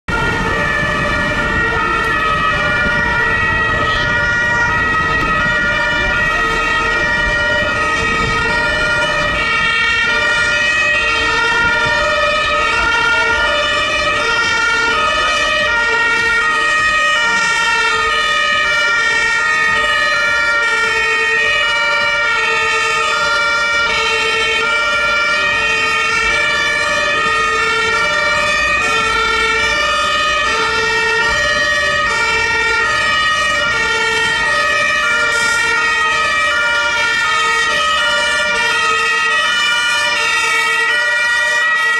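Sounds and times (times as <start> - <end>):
two-tone fire engine sirens: 0.0 - 41.9
traffic rumble: 0.1 - 41.9.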